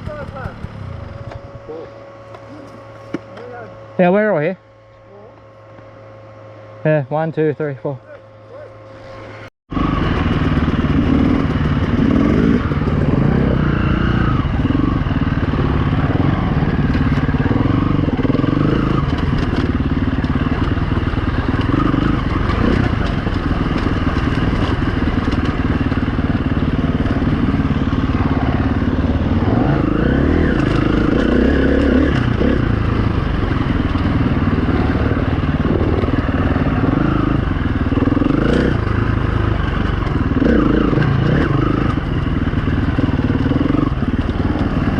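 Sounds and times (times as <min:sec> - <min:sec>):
dirt bike engine revving: 0:08.8 - 0:44.9.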